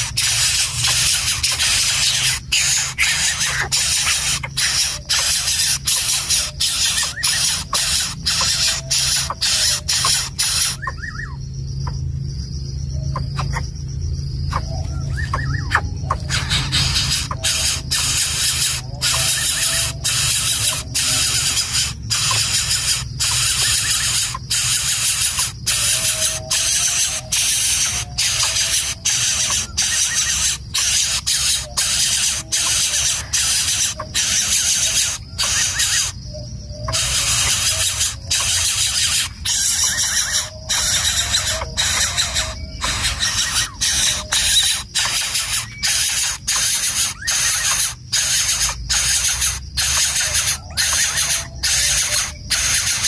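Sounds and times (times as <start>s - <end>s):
bird chick hissing begging calls: 0.0s - 10.9s, 15.7s - 36.2s, 36.9s - 53.0s.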